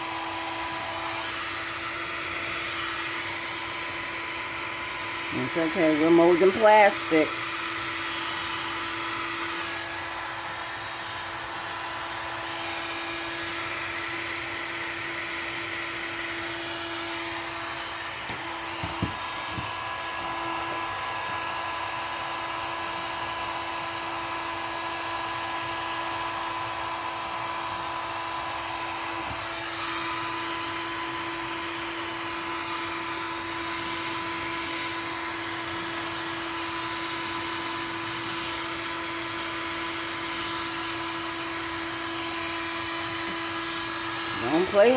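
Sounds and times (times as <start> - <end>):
heat gun running: 0.0 - 44.9.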